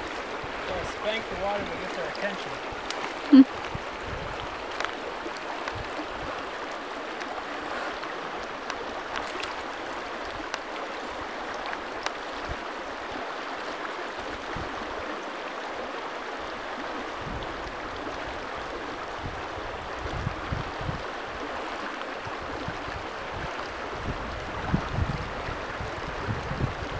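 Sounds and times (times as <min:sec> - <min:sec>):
river flowing over rocks: 0:00.0 - 0:26.9.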